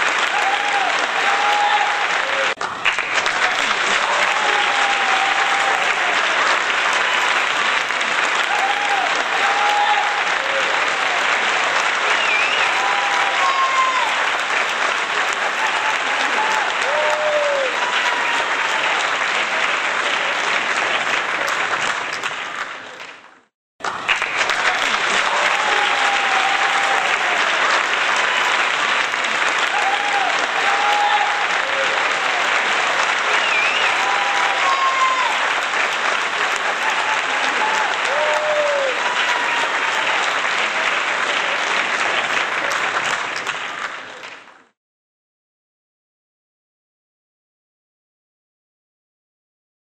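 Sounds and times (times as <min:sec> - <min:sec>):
crowd applauding: 0:00.0 - 0:44.8.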